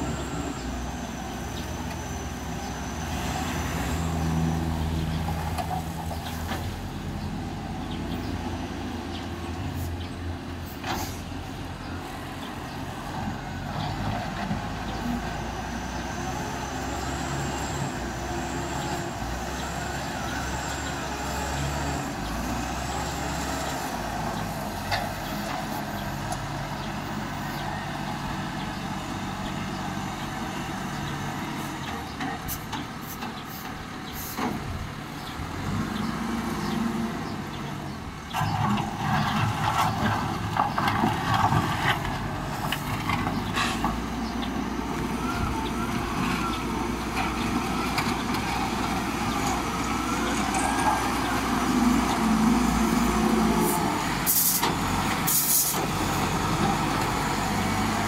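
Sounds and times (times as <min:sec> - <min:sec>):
loader diesel engine under load: 0:00.0 - 0:58.0.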